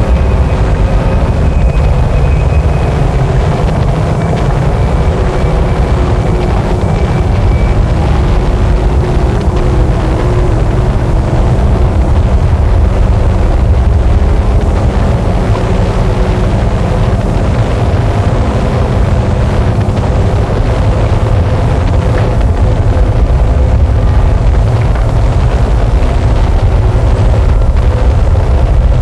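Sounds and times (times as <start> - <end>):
wall of distorted noise: 0.0 - 29.0.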